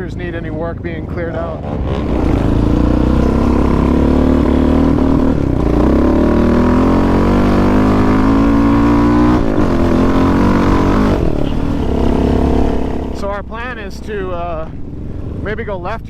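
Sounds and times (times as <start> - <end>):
quad engine running: 0.0 - 16.0.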